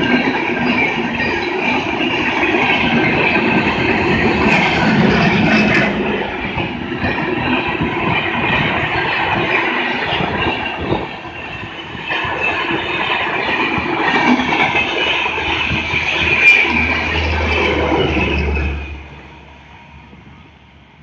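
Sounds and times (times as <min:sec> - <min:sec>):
train wheels clattering over rail joints: 0:00.0 - 0:19.4.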